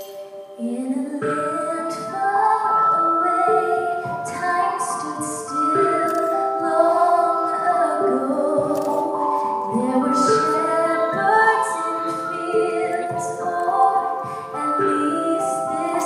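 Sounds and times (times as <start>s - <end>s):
women singing in harmony: 0.6s - 16.0s.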